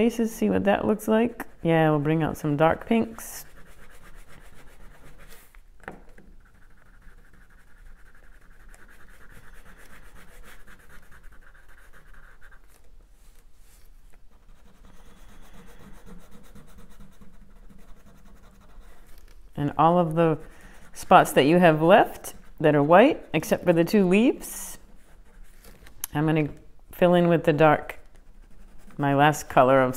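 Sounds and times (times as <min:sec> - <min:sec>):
crayon scratching on paper: 0:01.4 - 0:05.6, 0:06.3 - 0:25.8, 0:27.5 - 0:29.9.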